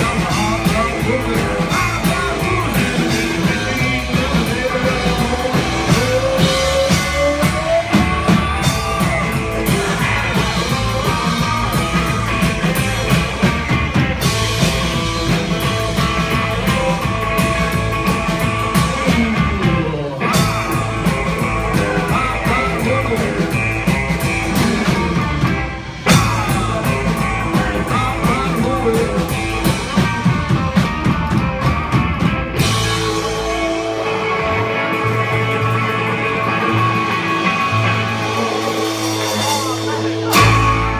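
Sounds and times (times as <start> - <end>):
drum kit: 0.0 - 40.9
electric guitar: 0.0 - 40.9
upright double bass: 0.0 - 40.9.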